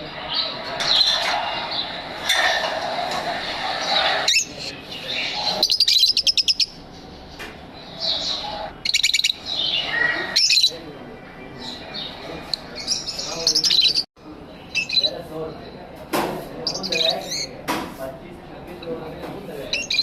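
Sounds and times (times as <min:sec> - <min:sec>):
birds chirping and chattering: 0:00.0 - 0:20.0.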